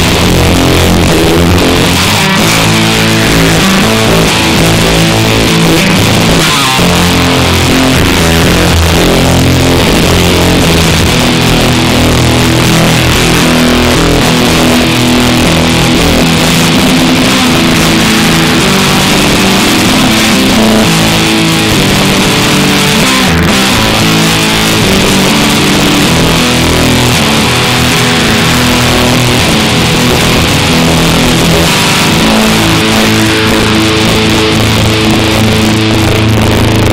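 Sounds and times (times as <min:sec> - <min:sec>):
distorted electric guitar: 0:00.0 - 0:36.9.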